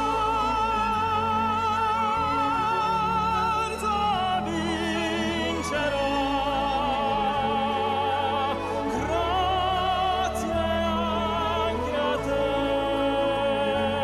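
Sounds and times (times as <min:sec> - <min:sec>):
operatic voice singing: 0:00.0 - 0:14.0
orchestral accompaniment: 0:00.0 - 0:14.0.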